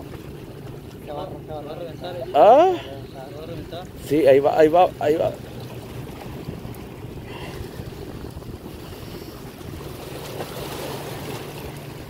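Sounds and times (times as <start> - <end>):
choppy water slapping: 0.0 - 12.0
wind buffeting microphone: 0.0 - 12.0.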